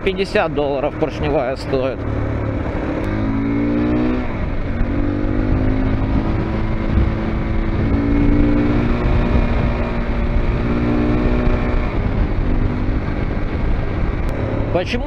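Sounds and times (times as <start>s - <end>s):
low wind rumble: 0.0s - 15.0s
motorcycle engine accelerating: 0.0s - 15.0s.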